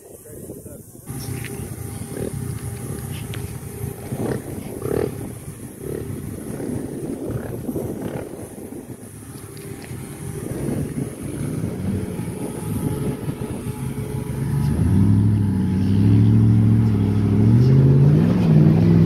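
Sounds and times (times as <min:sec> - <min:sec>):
pickup truck engine: 0:00.2 - 0:19.0.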